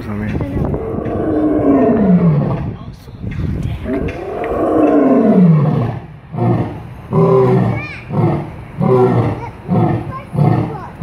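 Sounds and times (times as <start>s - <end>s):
lion grunting: 0.7s - 2.7s, 3.8s - 11.0s
lion roaring: 0.7s - 2.7s, 3.8s - 11.0s.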